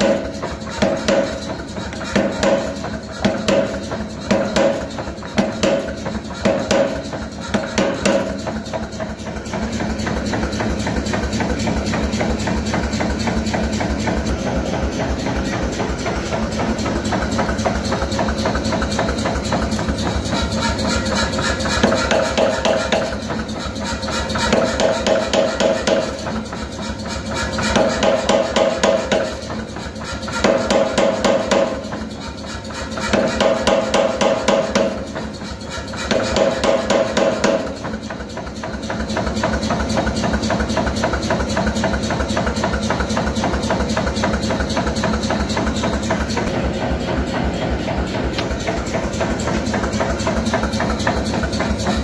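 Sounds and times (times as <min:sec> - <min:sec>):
mechanical clatter: 0:00.0 - 0:52.0
power hammer pounding steel: 0:00.0 - 0:52.0.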